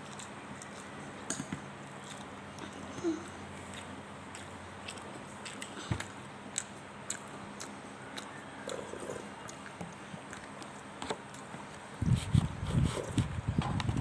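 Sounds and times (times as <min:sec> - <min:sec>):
chewing with wet mouth sounds: 0:01.9 - 0:13.3.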